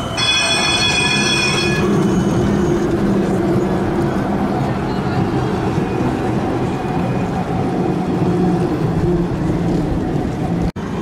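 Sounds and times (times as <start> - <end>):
vehicle running: 0.0 - 11.0.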